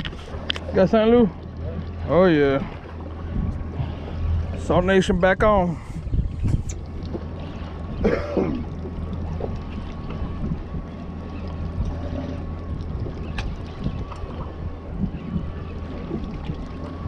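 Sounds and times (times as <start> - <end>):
boat motor humming: 0.0 - 17.0
water against hull: 0.0 - 17.0
wind: 0.0 - 17.0.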